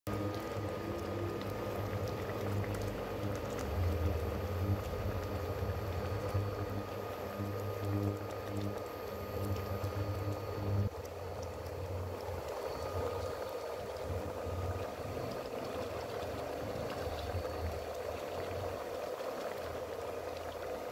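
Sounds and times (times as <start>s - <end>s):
low hum: 0.1s - 18.1s
curry gravy bubbling: 0.1s - 20.9s.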